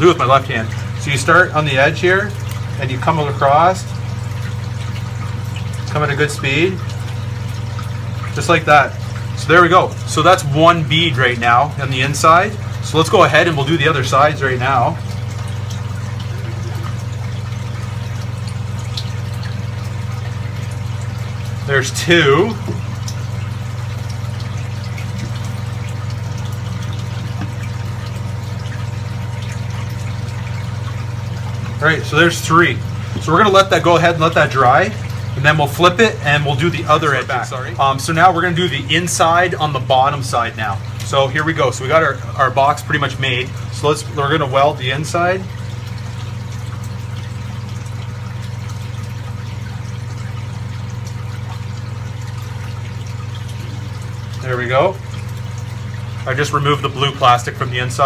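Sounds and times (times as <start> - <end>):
electrical hum of aquarium pumps: 0.0 - 58.0.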